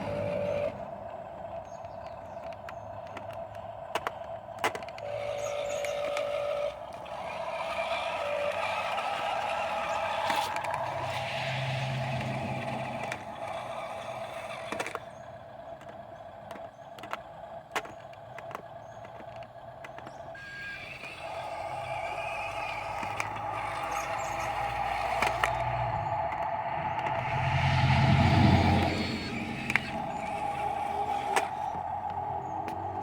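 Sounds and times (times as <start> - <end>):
dump truck engine running: 0.0 - 33.0
sharp clicks and knocks: 1.6 - 15.1, 15.8 - 20.4, 21.0 - 33.0.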